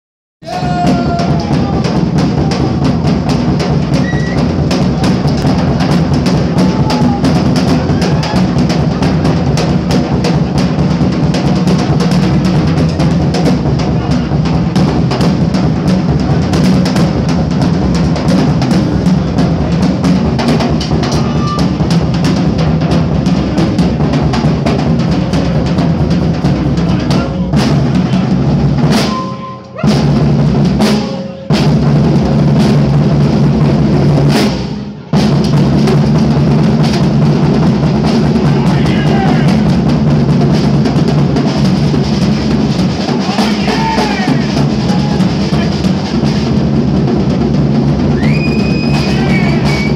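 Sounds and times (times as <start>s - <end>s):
drum kit solo: 0.4s - 49.9s.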